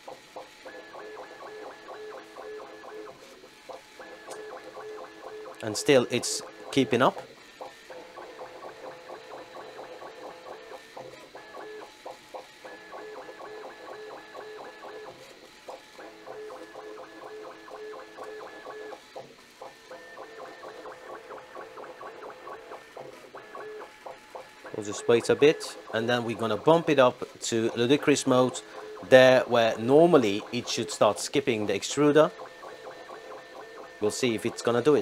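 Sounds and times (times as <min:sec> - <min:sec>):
printer stepper motors whining: 0:00.0 - 0:35.0.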